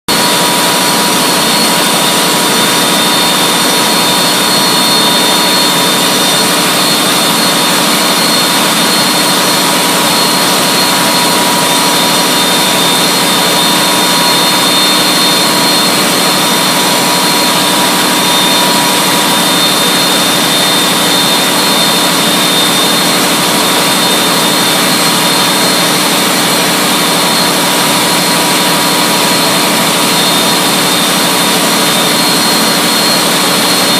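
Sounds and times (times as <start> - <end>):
large engine exhaust noise: 0.1 - 33.9
steady whining tones: 0.2 - 33.9.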